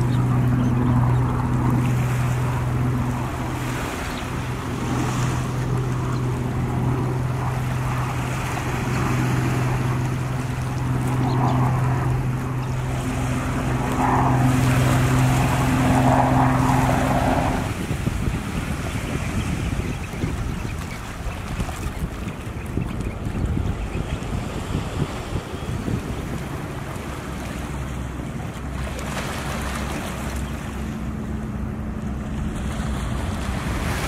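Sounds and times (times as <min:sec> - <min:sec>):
small waves washing over sand: 0:00.0 - 0:31.3, 0:32.2 - 0:34.0
steady low hum: 0:00.0 - 0:34.0
wind buffeting microphone: 0:00.0 - 0:34.0.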